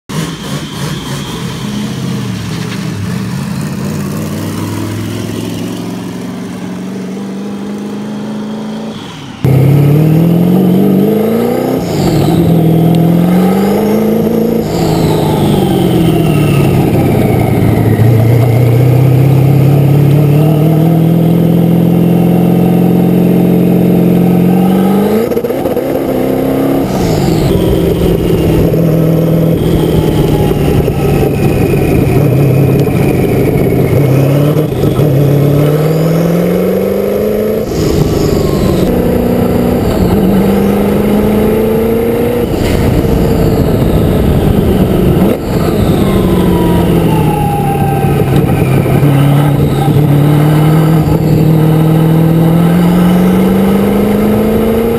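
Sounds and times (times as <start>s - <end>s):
faint high turbo whistle: 0.1s - 3.7s, 5.0s - 21.1s, 21.9s - 54.9s
race car engine revving: 0.1s - 54.9s.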